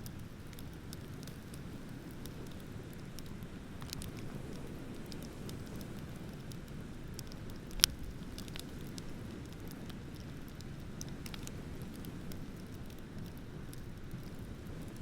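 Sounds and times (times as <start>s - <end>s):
wood bonfire crackling: 0.0s - 15.0s.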